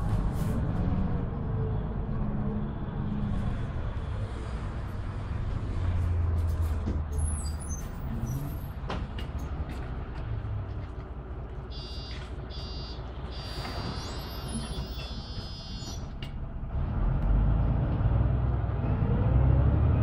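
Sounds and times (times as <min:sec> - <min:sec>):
bus engine and road drone: 0:00.0 - 0:20.0.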